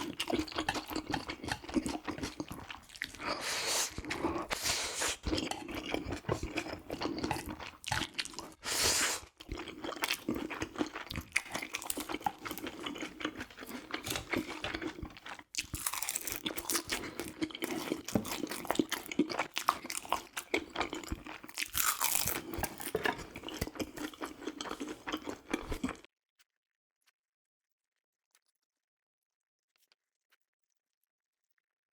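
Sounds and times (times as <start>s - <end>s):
chewing with crunching: 0.0s - 26.1s.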